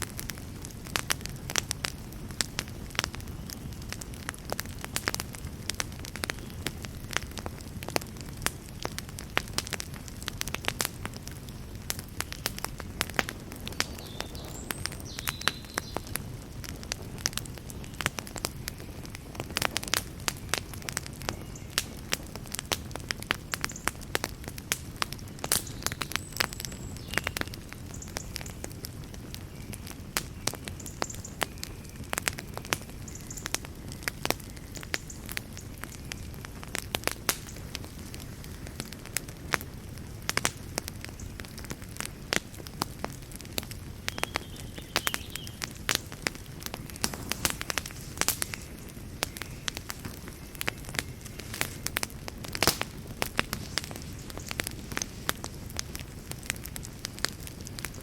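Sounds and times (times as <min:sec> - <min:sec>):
wood fire burning: 0:00.0 - 0:58.0.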